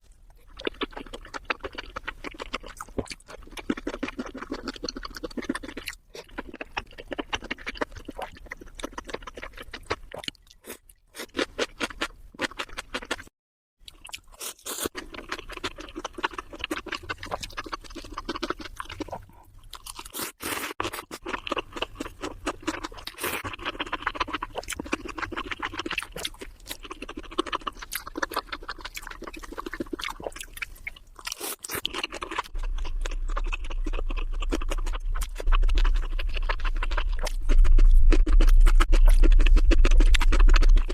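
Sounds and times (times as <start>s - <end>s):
crunchy chewing: 0.0s - 13.3s, 13.9s - 40.9s.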